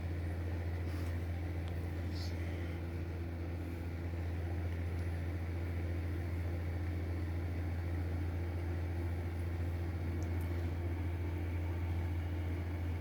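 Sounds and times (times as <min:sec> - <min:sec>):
electric heater humming: 0:00.0 - 0:13.0.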